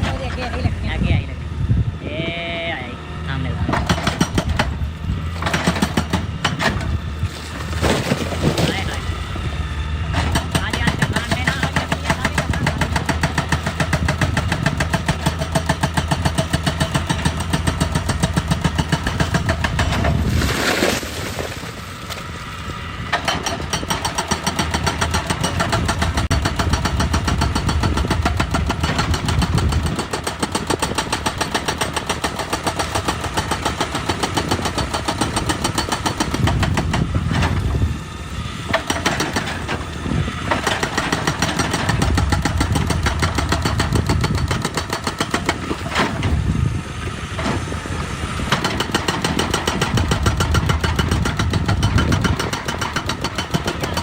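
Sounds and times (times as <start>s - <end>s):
excavator diesel engine rumble: 0.0s - 54.0s.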